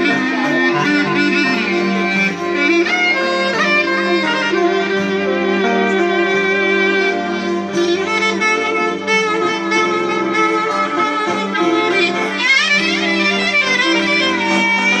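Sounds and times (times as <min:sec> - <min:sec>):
clarinet melody: 0:00.0 - 0:15.0
lute: 0:00.0 - 0:15.0
violin: 0:00.0 - 0:15.0.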